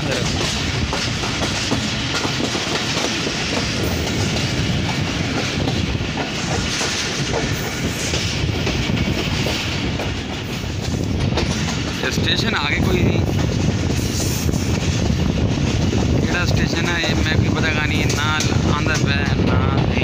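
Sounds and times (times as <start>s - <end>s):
train rumble and rush of air: 0.0s - 20.0s.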